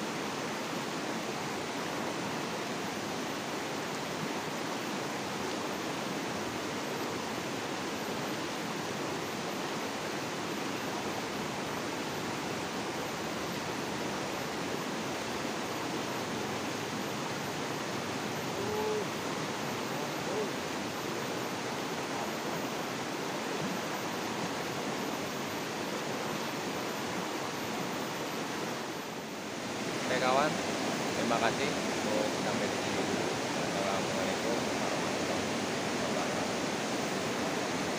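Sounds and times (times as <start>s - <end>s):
river rushing over rocks: 0.0s - 37.9s.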